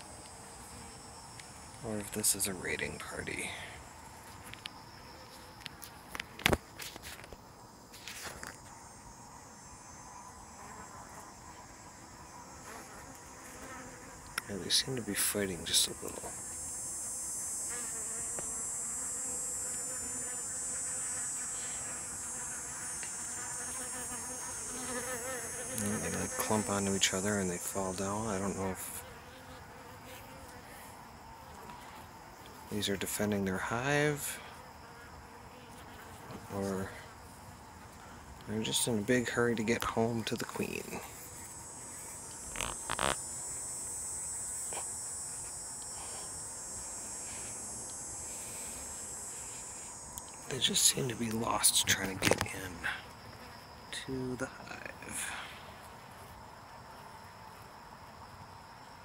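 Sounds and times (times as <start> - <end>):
honey bees buzzing: 0.0 - 6.9, 8.5 - 55.3
high-pitched insect chorus: 0.0 - 59.0.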